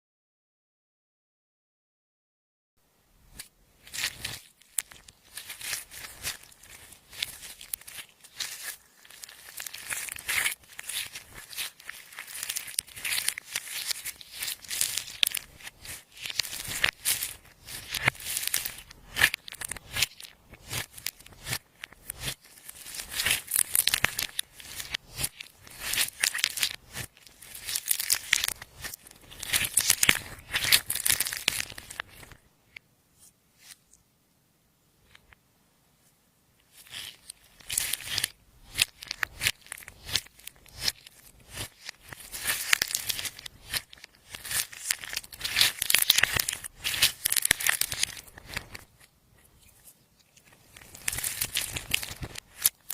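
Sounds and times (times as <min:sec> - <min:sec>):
slime crackling and squelching: 0:03.3 - 0:32.5, 0:36.6 - 0:52.9.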